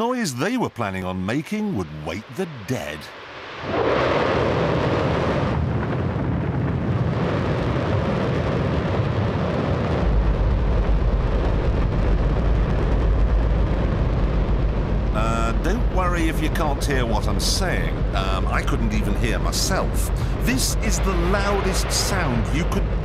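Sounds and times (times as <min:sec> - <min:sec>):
rocket engine roaring: 0:00.0 - 0:23.0
deep rumble: 0:01.8 - 0:23.0.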